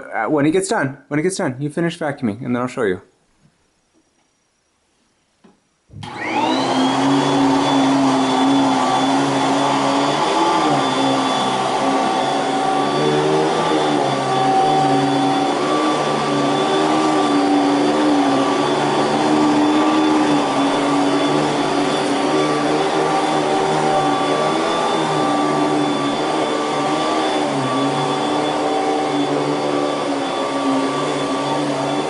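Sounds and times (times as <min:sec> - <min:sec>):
vacuum cleaner motor: 0:06.0 - 0:32.0.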